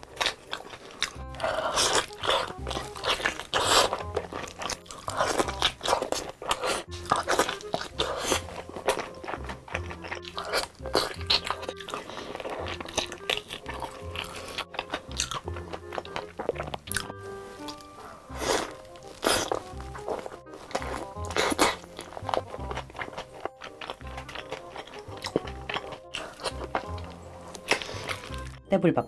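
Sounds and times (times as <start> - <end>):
loud crunching of fried chicken: 0.0 - 28.6
background music: 0.0 - 29.0.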